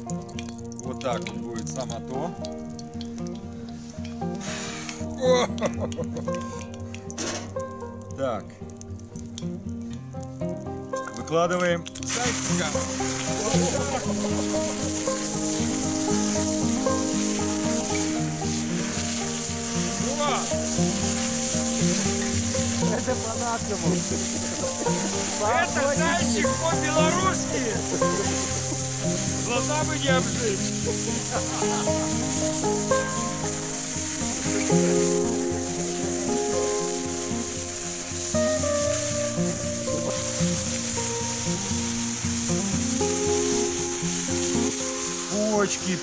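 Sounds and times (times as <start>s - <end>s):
background music held notes: 0.0s - 46.0s
meat sizzling in oil: 0.0s - 46.0s.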